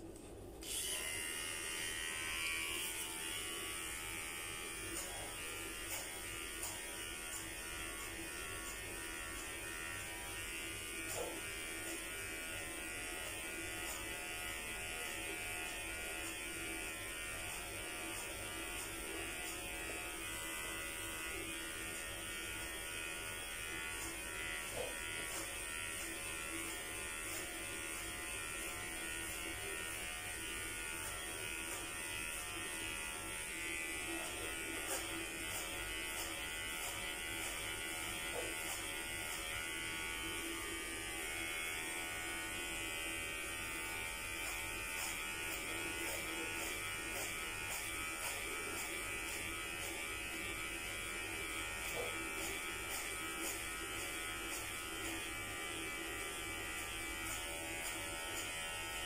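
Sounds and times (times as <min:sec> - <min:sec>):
electric hair clippers buzzing: 0:00.0 - 0:59.0.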